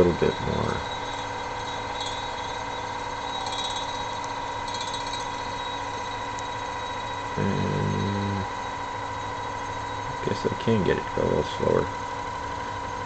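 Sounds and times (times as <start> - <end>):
low hum: 0.0 - 13.0
small fan high whine: 0.0 - 13.0.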